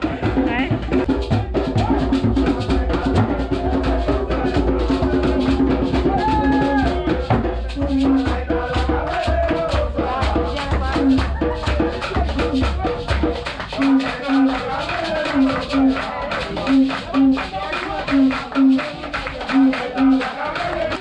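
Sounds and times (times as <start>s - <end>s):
hand drum beating: 0.0s - 21.0s
person singing: 0.0s - 21.0s
shaker rattling: 0.5s - 21.0s.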